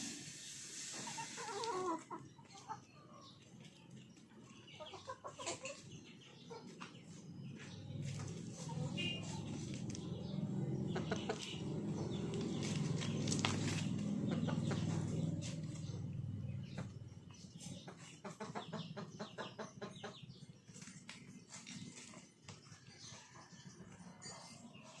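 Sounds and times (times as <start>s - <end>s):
chickens clucking: 0.7s - 25.0s.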